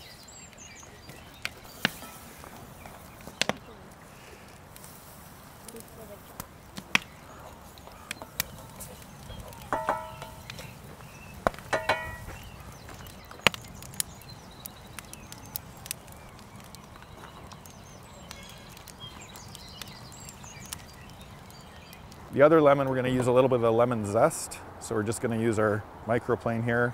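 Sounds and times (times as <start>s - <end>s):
campfire crackling and popping: 0.0s - 24.5s.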